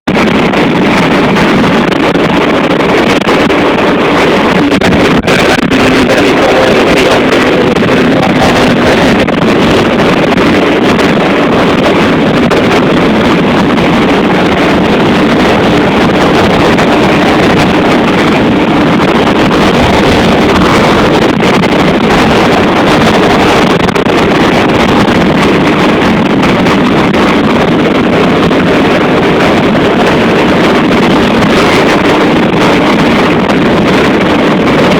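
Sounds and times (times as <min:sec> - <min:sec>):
strong wind buffeting microphone: 0:00.0 - 0:34.9.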